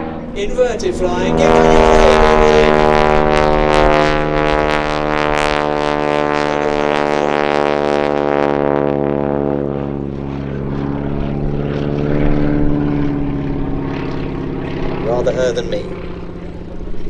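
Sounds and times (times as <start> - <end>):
biplane engine and propeller: 0.0 - 17.0.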